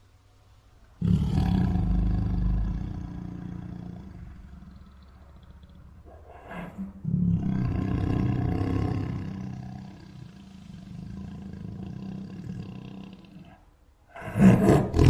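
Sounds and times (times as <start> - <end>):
low growl: 1.0 - 15.0
tiger roaring: 1.0 - 15.0.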